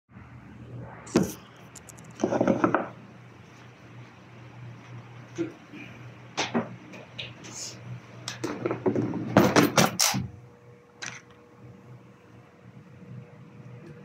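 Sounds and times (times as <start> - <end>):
fan humming: 0.1 - 14.0.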